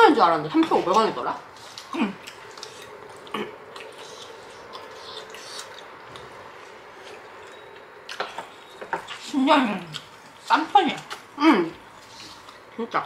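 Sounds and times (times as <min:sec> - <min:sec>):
soft chewing: 0:00.5 - 0:13.0.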